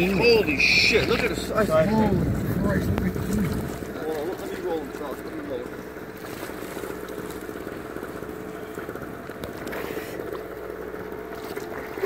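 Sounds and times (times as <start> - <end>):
boat motor idling: 0.0 - 12.0
water splashing against hull: 0.0 - 12.0.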